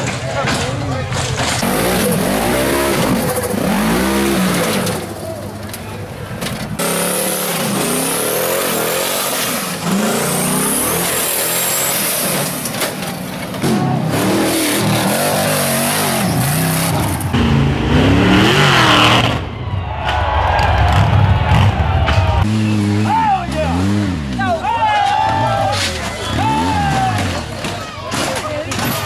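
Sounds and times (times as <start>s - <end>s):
buggy engines revving: 0.0s - 29.0s.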